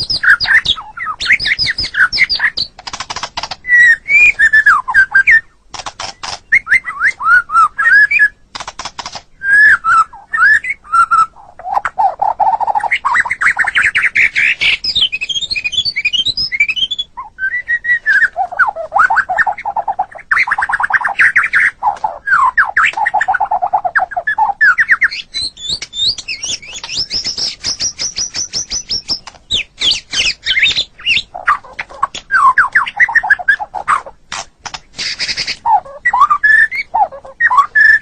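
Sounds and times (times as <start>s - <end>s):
songbird singing: 0.0s - 38.0s.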